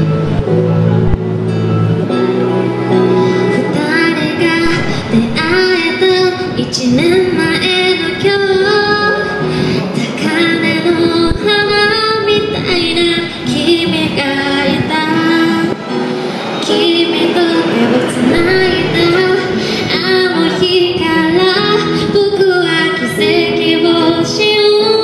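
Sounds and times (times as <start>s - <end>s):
woman singing pop ballad: 3.5s - 16.0s, 16.6s - 25.0s.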